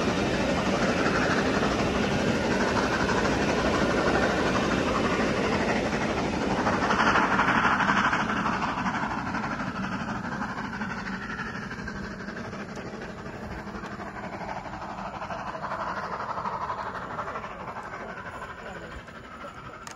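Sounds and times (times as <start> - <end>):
steam train rumble: 0.0 - 19.9.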